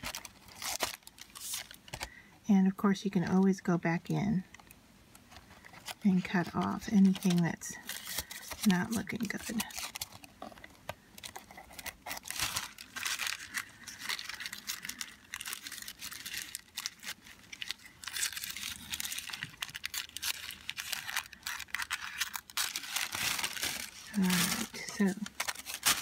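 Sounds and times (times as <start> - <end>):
tissue paper rustling: 0.0 - 2.0, 5.4 - 26.0.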